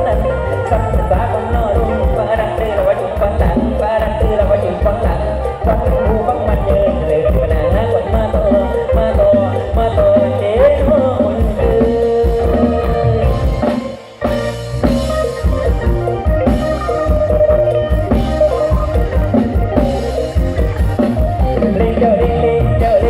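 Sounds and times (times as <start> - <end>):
band playing instrumental music: 0.0 - 23.0
drum kit beat: 0.0 - 23.0.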